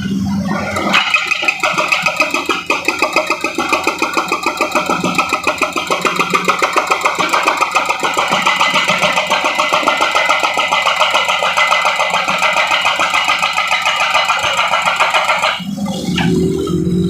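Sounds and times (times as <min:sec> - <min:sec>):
heavy machinery engine pulsing: 0:00.0 - 0:17.0.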